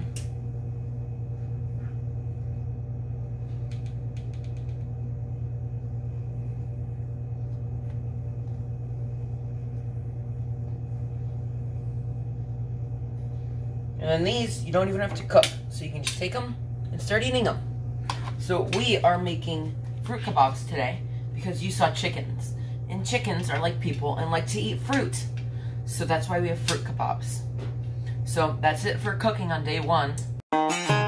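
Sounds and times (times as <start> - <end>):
steady low hum: 0.0 - 30.4.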